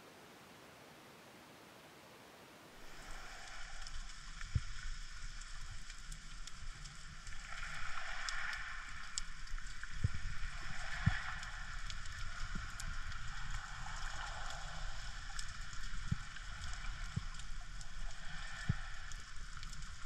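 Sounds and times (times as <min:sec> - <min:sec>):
underwater hiss: 0:02.8 - 0:20.0
faint clicks: 0:03.0 - 0:20.0.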